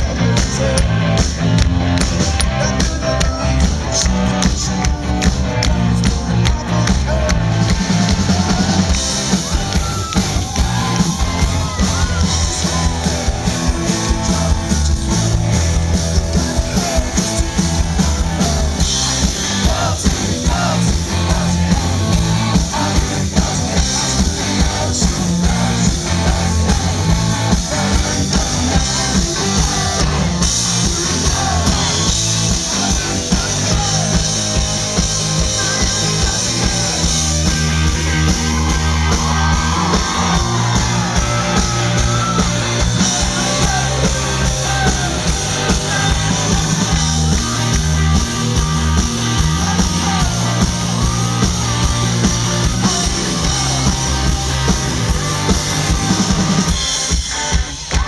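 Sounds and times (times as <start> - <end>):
amplified guitars: 0.0 - 58.0
bass guitar: 0.0 - 58.0
person singing: 0.0 - 58.0
steady drum beat: 0.0 - 58.0.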